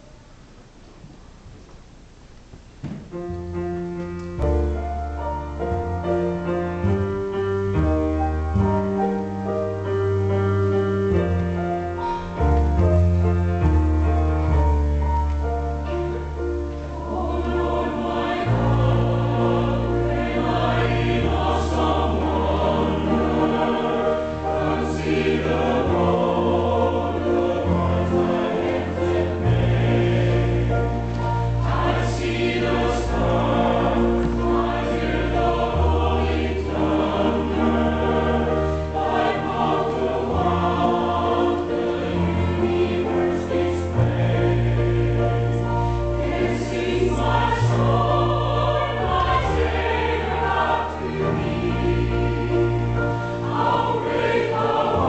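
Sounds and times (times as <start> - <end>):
keyboard accompaniment: 3.0 - 55.0
choir singing a hymn: 4.4 - 55.0.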